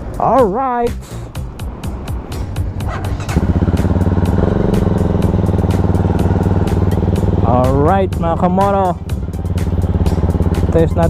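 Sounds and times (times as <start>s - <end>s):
background music with steady beat: 0.0s - 11.0s
single-cylinder engine idling: 1.3s - 11.0s.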